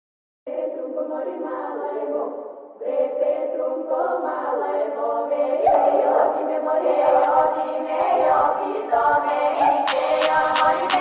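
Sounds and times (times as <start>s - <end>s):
choir singing: 0.5s - 11.0s.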